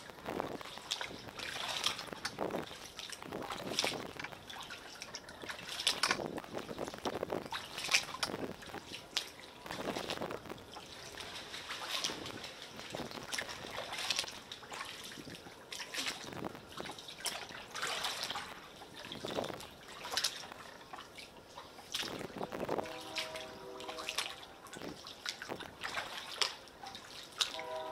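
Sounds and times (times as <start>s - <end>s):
kayak paddle splashing water: 0.0s - 27.9s.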